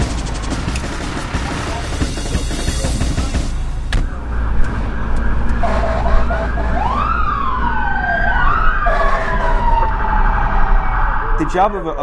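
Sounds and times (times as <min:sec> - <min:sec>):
fire engine siren wailing: 0:00.0 - 0:12.0
rapidly pulsing siren tone: 0:00.0 - 0:12.0.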